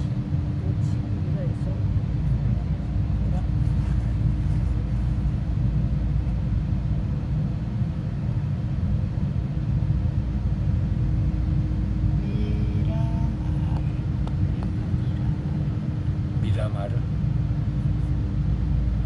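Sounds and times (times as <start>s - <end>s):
constant hum: 0.0s - 19.0s
train rumbling: 0.0s - 19.0s.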